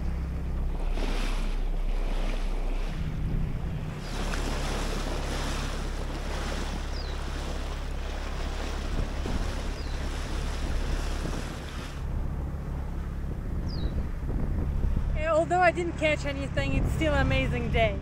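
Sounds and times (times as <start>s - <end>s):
outboard motor hum: 0.0s - 18.0s
water rushing: 0.0s - 18.0s
wind on microphone: 0.0s - 18.0s.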